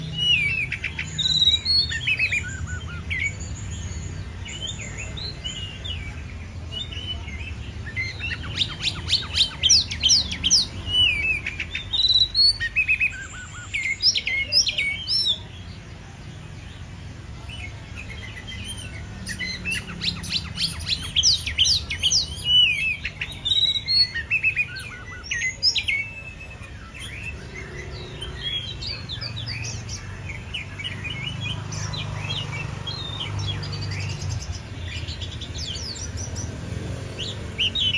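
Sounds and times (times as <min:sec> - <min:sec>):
songbird whistling and chattering: 0:00.0 - 0:15.8, 0:17.4 - 0:37.9.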